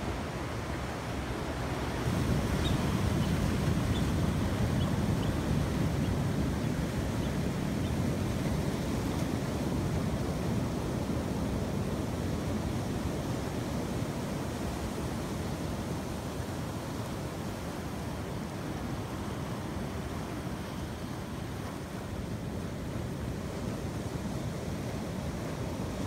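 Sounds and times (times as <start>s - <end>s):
ocean surf washing onto beach: 0.0s - 26.0s.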